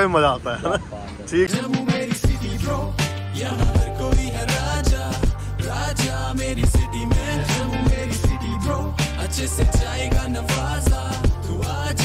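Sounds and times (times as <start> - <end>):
hip-hop track with steady beat: 1.5 - 12.0.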